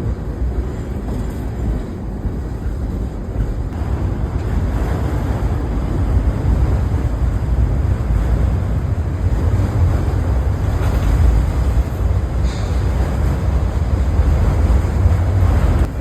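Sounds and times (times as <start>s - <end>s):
passing train rumble: 0.0s - 16.0s
wind buffeting microphone: 0.0s - 16.0s.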